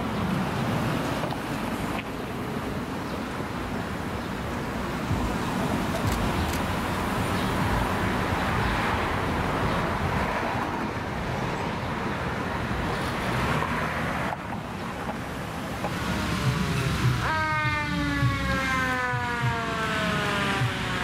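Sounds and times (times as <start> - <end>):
cars passing on street: 0.0 - 21.0.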